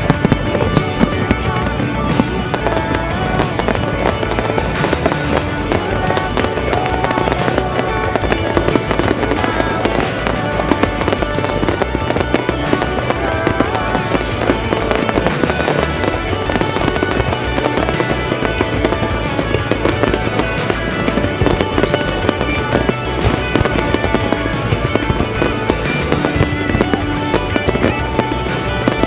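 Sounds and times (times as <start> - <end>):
fireworks banging and crackling: 0.0 - 29.0
loud music with steady beat: 0.0 - 29.0.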